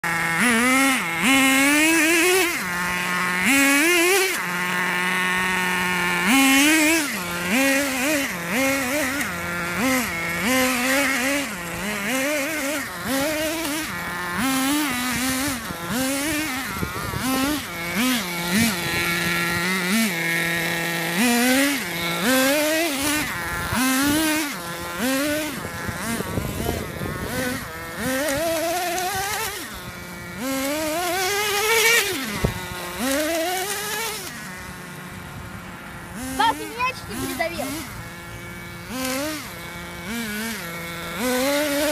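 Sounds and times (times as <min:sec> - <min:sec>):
toy car motor revving: 0:00.0 - 0:41.9.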